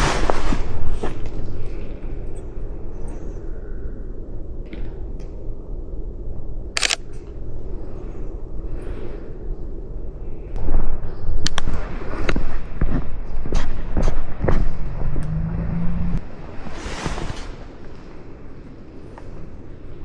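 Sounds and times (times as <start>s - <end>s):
heavy low rumble: 0.0s - 20.0s.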